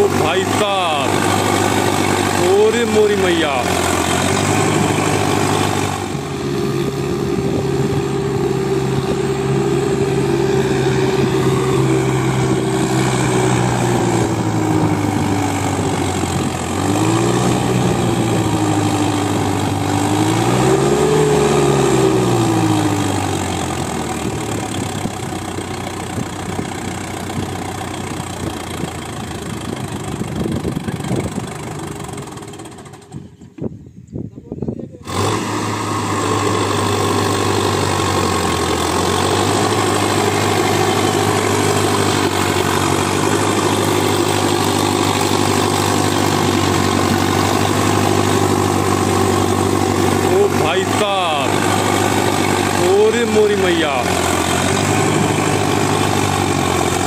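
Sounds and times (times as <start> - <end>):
tractor diesel engine revving: 0.0 - 33.6, 35.0 - 57.0.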